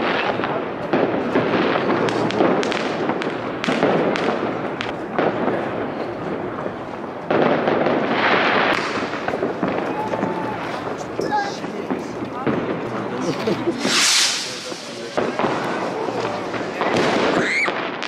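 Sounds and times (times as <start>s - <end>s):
fireworks bangs and crackling: 0.0s - 18.0s
fireworks hissing rush: 0.0s - 18.0s.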